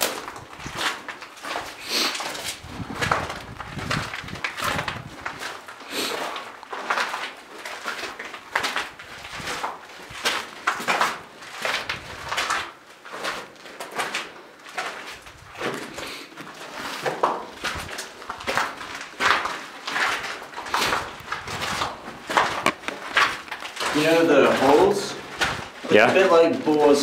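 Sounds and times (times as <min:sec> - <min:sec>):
footsteps crunching on rock floor: 0:00.0 - 0:27.0.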